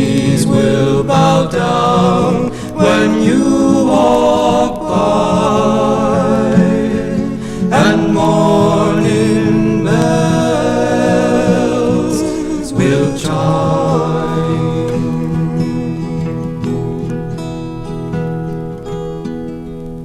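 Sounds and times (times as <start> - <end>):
voices singing in harmony: 0.0 - 16.7.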